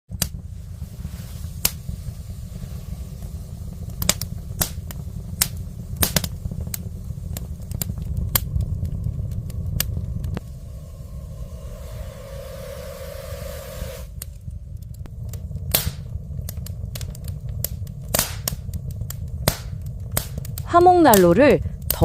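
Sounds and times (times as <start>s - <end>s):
low rumble of stove fire: 0.1s - 22.0s
wood fire crackling and popping: 0.1s - 22.0s.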